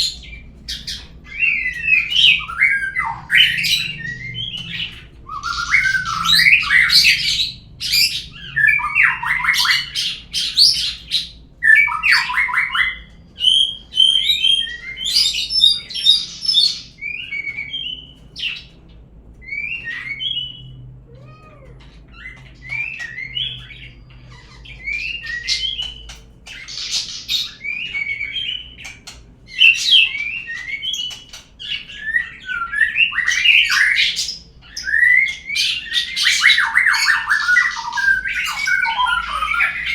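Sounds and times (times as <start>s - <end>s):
songbird whistling and chattering: 0.0s - 18.7s, 22.1s - 39.9s.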